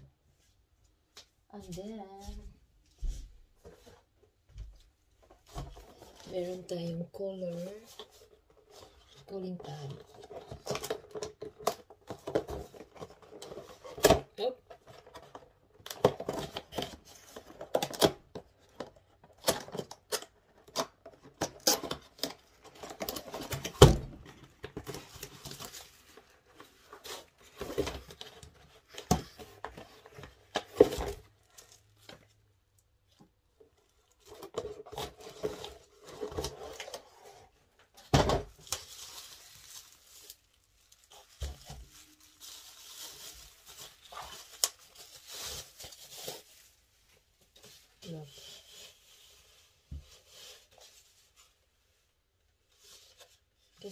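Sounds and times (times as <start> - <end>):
bubble wrap crinkling: 5.3 - 33.1, 33.8 - 53.6.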